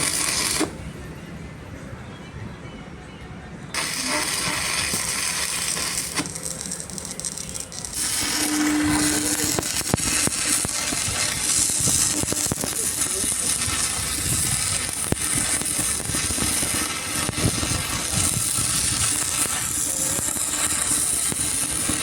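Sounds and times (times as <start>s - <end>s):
steady hissing noise: 3.8s - 22.0s.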